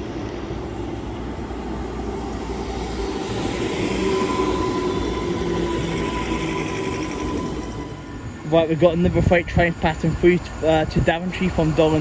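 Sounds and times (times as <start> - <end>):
train whine and wheel rumble: 0.0 - 12.0.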